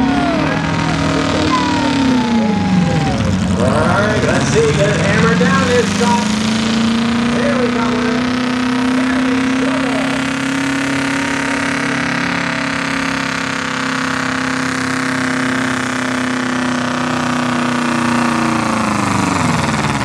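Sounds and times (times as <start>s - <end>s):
engine running loud and steady: 0.0s - 20.0s.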